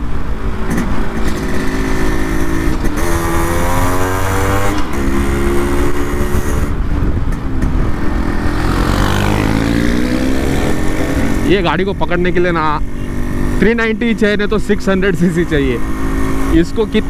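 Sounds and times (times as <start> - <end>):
motorcycle engine accelerating: 0.4 - 17.0.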